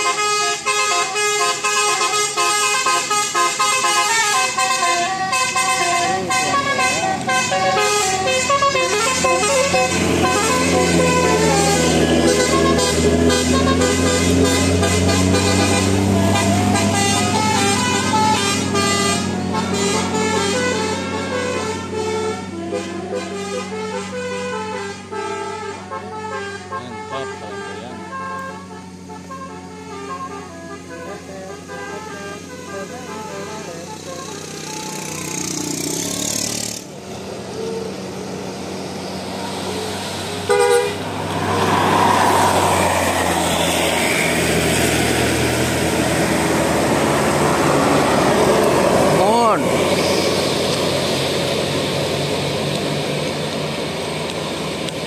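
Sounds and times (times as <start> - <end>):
bus horn playing a tune: 0.0 - 54.8.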